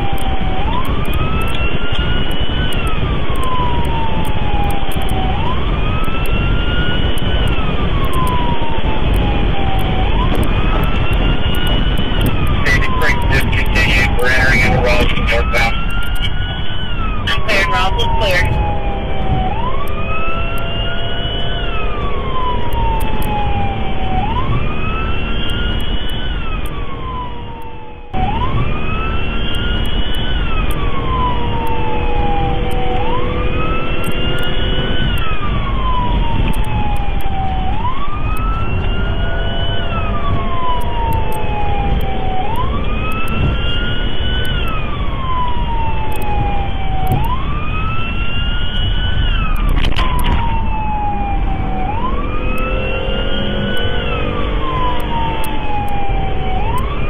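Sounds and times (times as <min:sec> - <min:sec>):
engine and road noise: 0:00.0 - 0:57.0
police siren wailing: 0:00.0 - 0:57.0.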